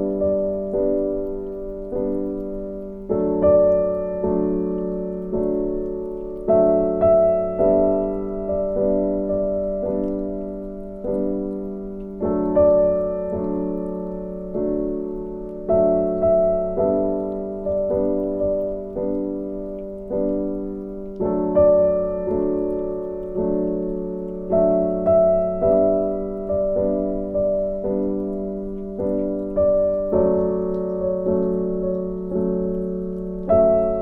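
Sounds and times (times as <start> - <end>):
soft piano chords: 0.0 - 34.0.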